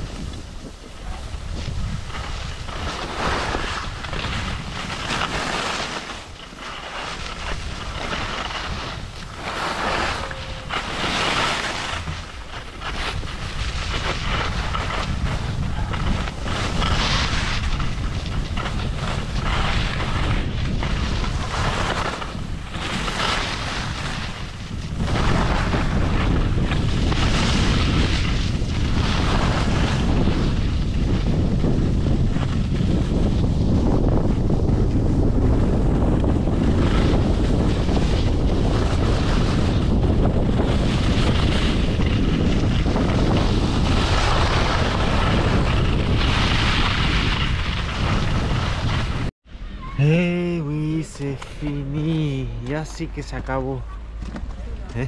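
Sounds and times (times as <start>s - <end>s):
skis scraping across snow: 0.0s - 49.3s, 50.2s - 55.0s
wind buffeting microphone: 0.0s - 55.0s.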